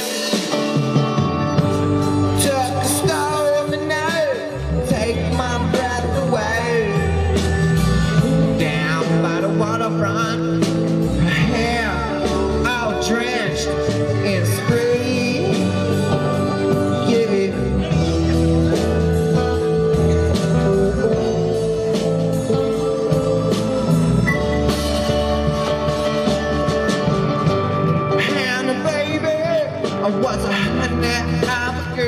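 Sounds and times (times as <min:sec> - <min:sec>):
live rock band playing: 0:00.0 - 0:32.0
person singing lead vocal: 0:00.0 - 0:32.0.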